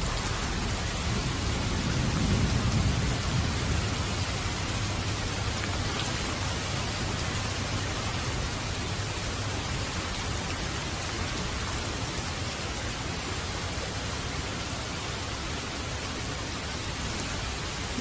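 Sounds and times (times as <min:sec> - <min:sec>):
heavy rain hissing: 0:00.0 - 0:18.0
low constant rumble: 0:00.0 - 0:18.0.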